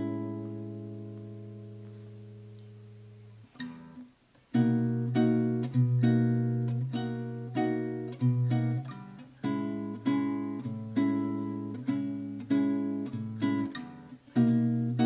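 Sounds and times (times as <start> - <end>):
acoustic guitar strummed chords: 0.0 - 15.0
soft guitar notes: 0.0 - 15.0.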